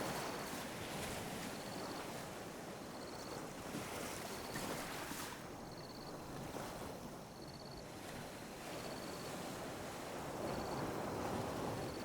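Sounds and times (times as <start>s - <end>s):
sea waves lapping at shore: 0.0s - 12.0s.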